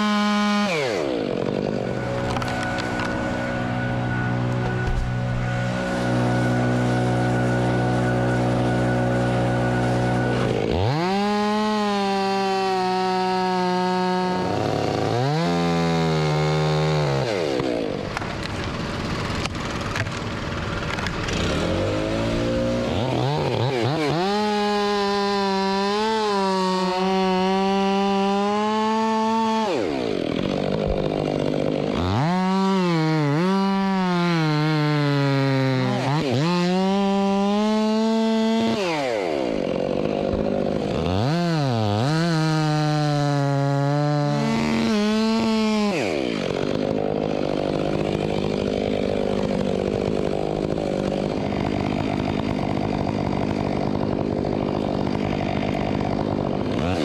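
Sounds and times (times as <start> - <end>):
chainsaw cutting wood: 0.0 - 57.0
chainsaw revving: 0.0 - 57.0.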